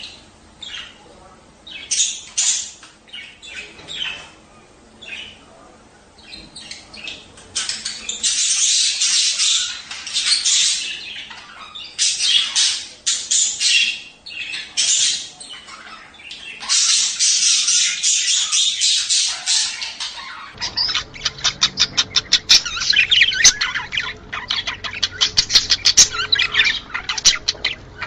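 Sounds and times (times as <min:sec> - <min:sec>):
budgerigars chattering and squawking: 0:00.0 - 0:04.4, 0:05.0 - 0:28.0.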